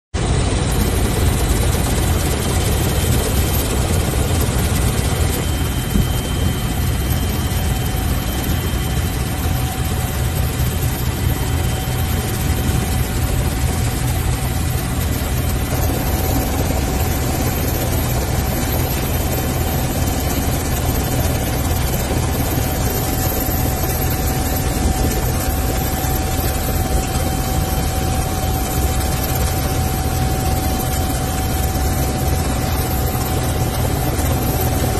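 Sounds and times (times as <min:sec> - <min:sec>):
helicopter rotor throb: 0:00.2 - 0:34.9
helicopter whine: 0:00.2 - 0:34.9.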